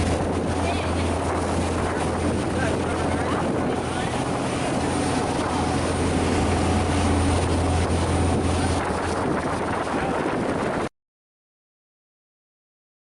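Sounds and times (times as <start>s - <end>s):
boat engine droning: 0.0s - 10.9s
rushing water noise: 0.0s - 10.9s.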